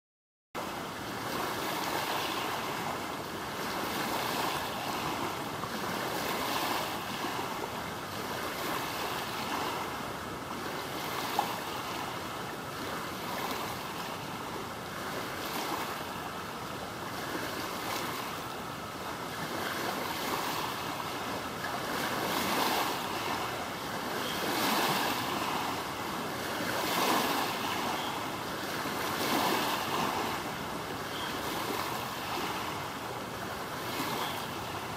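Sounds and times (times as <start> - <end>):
small waves washing: 0.6 - 34.9.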